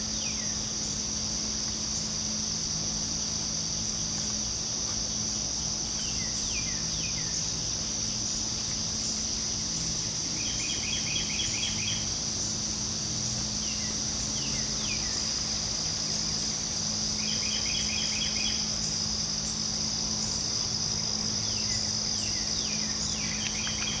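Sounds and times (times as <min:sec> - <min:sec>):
night insects chorus: 0:00.0 - 0:24.0.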